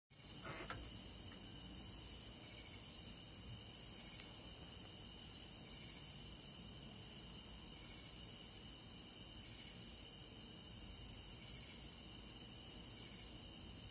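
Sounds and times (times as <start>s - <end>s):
crickets trilling: 0.1s - 13.9s
insect buzz pulsing: 0.1s - 13.9s.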